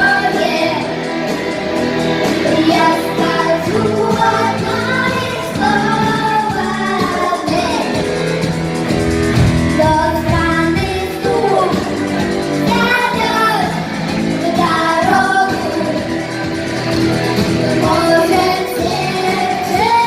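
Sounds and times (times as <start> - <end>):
rock band with guitar and beat: 0.0 - 20.0
singers performing rock song: 0.0 - 20.0.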